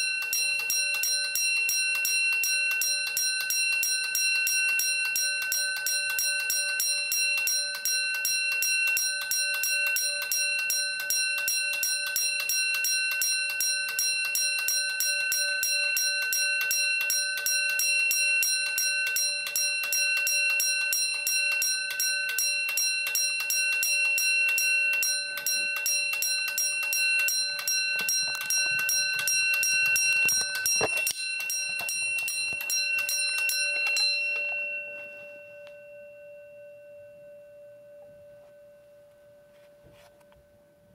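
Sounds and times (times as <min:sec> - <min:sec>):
fire alarm bell ringing: 0:00.0 - 0:40.6.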